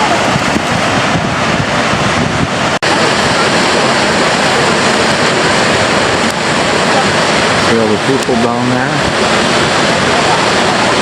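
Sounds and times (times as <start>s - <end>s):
waterfall rushing: 0.0s - 11.0s
wind on microphone: 0.0s - 11.0s.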